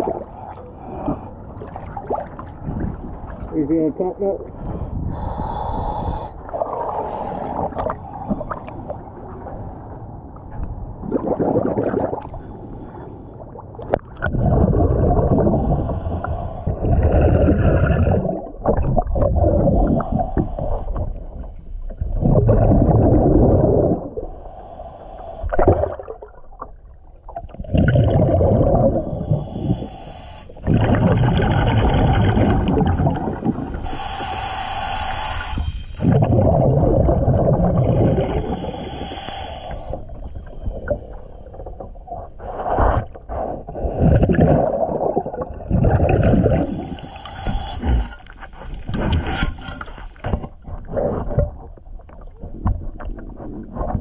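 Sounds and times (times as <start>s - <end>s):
regulator bubbling exhalations underwater: 0.0s - 12.6s, 13.4s - 54.0s.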